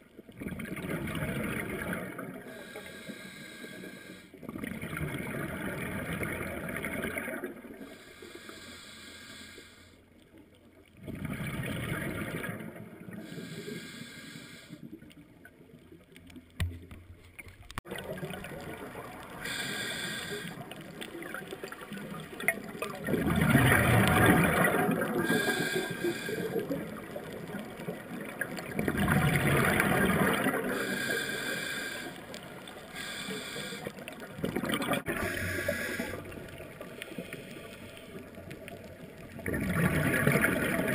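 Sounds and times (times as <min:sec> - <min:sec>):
underwater gurgling bubbles: 0:00.0 - 0:09.6, 0:10.2 - 0:40.9.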